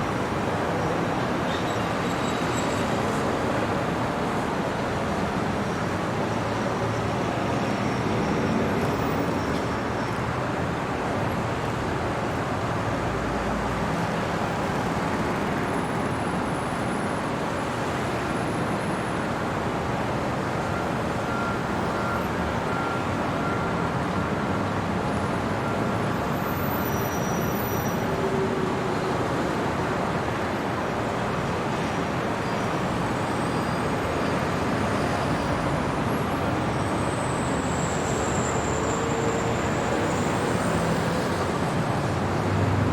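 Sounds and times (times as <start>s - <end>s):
distant road traffic: 0.0s - 42.9s.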